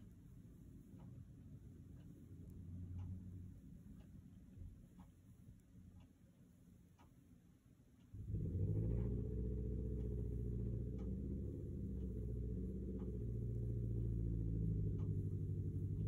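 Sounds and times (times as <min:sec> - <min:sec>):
faint ticks: 0:00.0 - 0:07.4, 0:08.0 - 0:16.0.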